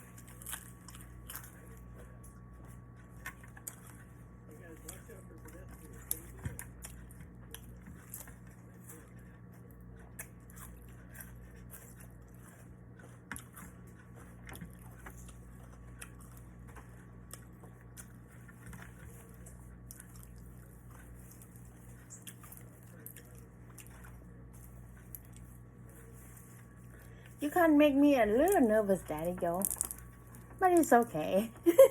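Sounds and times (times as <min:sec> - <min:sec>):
person chewing and crunching: 0:00.0 - 0:27.4, 0:28.3 - 0:31.0
steady low hum: 0:00.0 - 0:31.9.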